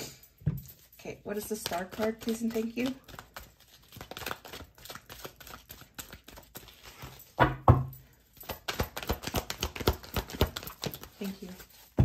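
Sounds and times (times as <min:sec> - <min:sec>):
cards being shuffled: 0:01.3 - 0:07.4, 0:08.4 - 0:12.0.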